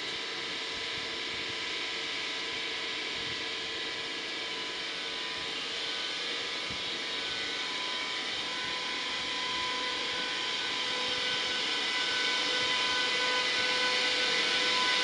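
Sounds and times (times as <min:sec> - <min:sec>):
electric locomotive whine: 0:00.0 - 0:15.0.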